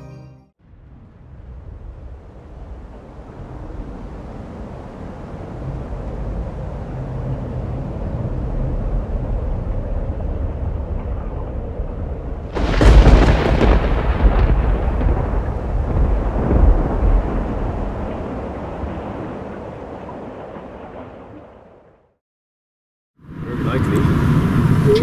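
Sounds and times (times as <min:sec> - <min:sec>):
rolling thunder: 0:00.6 - 0:22.1.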